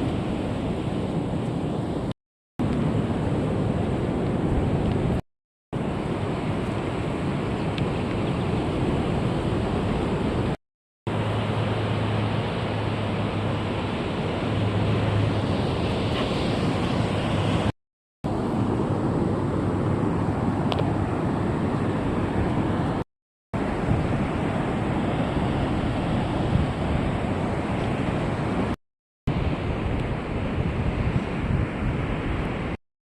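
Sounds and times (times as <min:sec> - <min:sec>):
ocean surf on a beach: 0:00.0 - 0:05.2, 0:05.8 - 0:17.7, 0:18.3 - 0:23.0, 0:23.6 - 0:32.8
wind rumbling on microphone: 0:00.0 - 0:05.2, 0:05.8 - 0:17.7, 0:18.3 - 0:23.0, 0:23.6 - 0:32.8.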